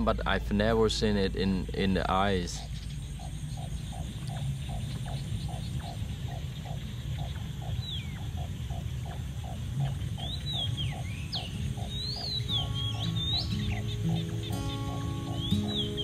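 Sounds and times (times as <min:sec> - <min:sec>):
whistled bird calls: 0:02.5 - 0:16.0.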